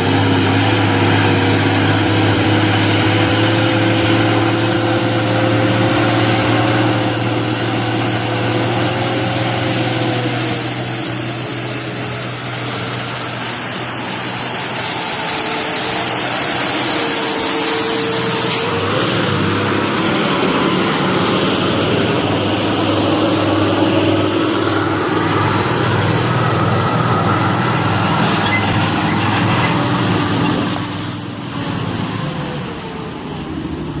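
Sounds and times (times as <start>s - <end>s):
heavy vehicle engines running: 0.0s - 34.0s.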